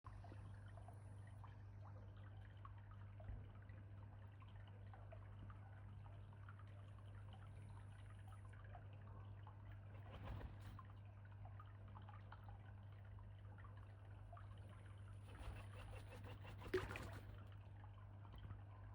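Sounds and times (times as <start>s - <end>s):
water trickling and dripping: 0.1s - 15.8s, 16.4s - 18.9s.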